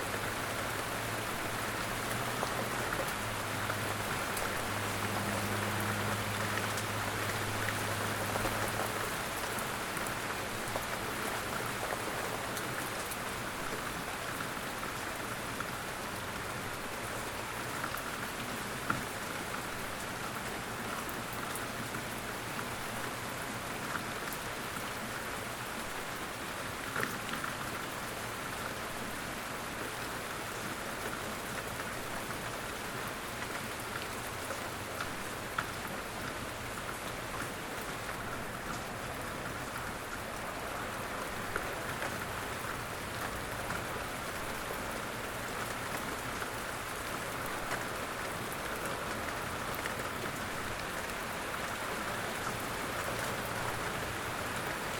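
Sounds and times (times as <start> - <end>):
light rain falling: 0.0 - 54.9.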